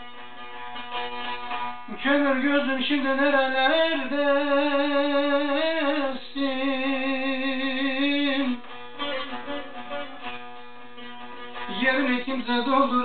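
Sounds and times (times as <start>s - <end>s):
plucked saz strings: 0.0s - 13.0s.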